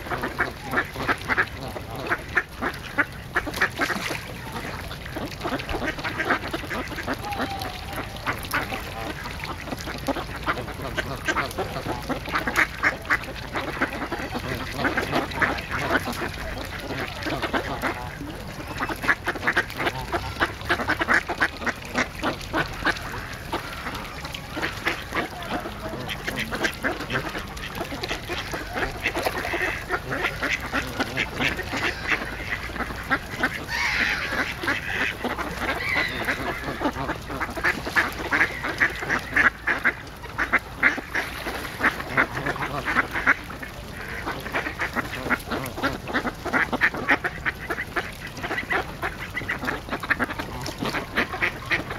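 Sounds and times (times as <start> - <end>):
ducks quacking: 0.0 - 51.9.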